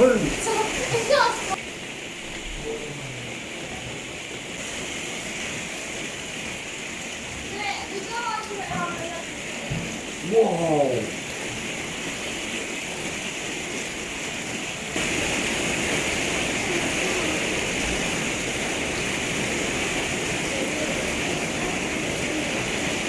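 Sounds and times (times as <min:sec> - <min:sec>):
torrential rain pouring: 0:00.0 - 0:23.0.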